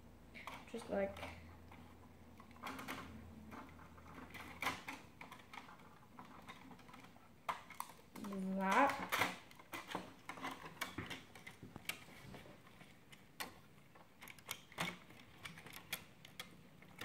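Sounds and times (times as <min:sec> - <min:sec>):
plastic toy bricks clicking: 0:00.4 - 0:17.0.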